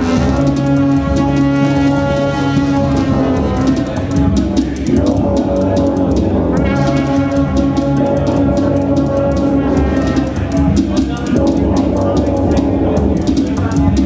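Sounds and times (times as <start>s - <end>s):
bass line: 0.0s - 14.0s
buzzy synth lead notes: 0.0s - 14.0s
fast hi-hat ticking: 0.0s - 14.0s.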